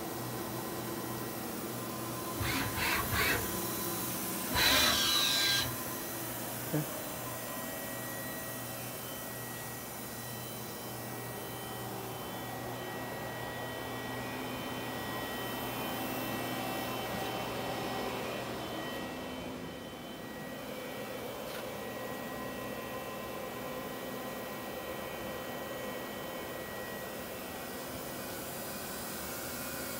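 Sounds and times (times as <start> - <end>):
lathe humming with high whine: 0.0 - 29.9.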